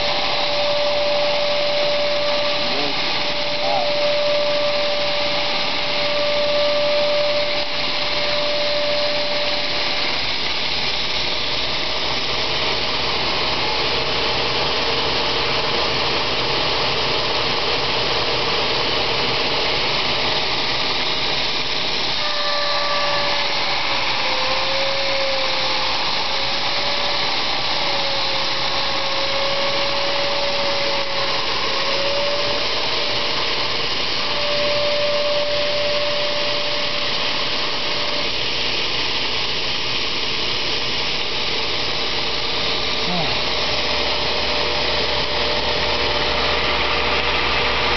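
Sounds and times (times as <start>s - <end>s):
belt grinder hum: 0.0s - 47.9s.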